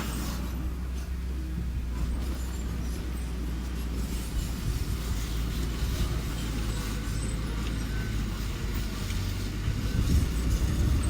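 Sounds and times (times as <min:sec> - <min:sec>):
construction machine engine droning: 0:00.0 - 0:11.0.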